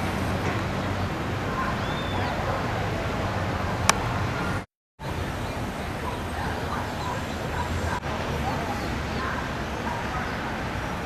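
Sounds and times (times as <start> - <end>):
distant traffic rumble: 0.0 - 11.0
wind: 0.0 - 11.0.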